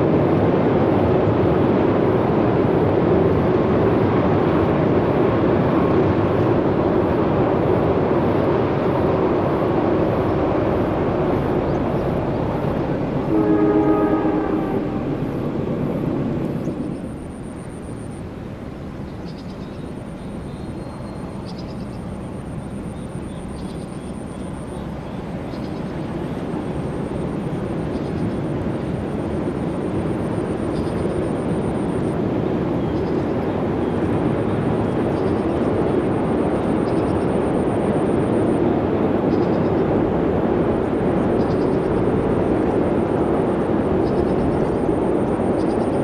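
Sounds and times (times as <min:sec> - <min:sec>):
train rumbling: 0:00.0 - 0:46.0.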